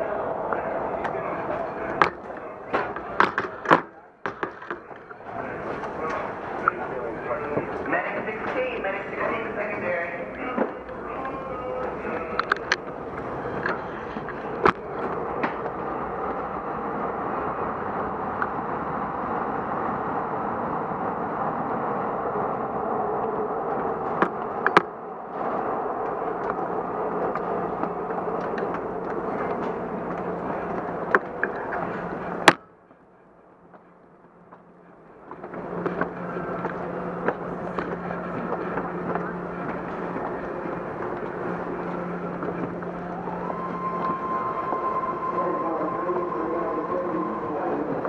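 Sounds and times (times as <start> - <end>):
escalator mechanical rumble: 0.0 - 48.0
low steady hum: 0.0 - 48.0.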